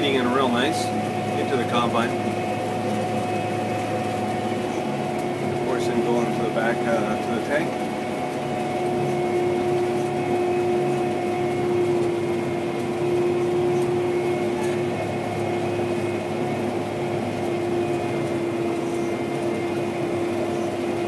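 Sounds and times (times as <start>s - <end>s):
combine engine and threshing drone: 0.0s - 21.0s
steady hum: 0.0s - 21.0s.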